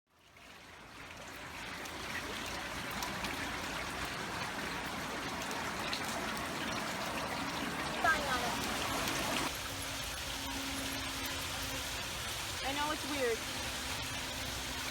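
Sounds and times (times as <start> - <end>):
water trickling and splashing: 0.1 - 14.9.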